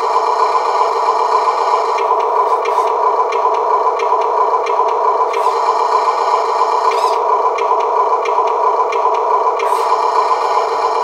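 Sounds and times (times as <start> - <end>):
diesel engine idle from small speaker: 0.0 - 11.0.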